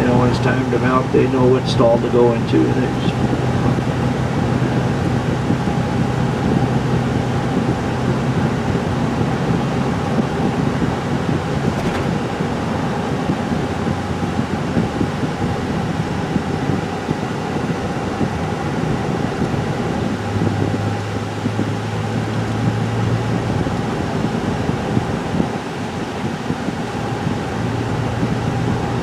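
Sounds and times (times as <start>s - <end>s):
road and engine noise in car: 0.0s - 29.0s.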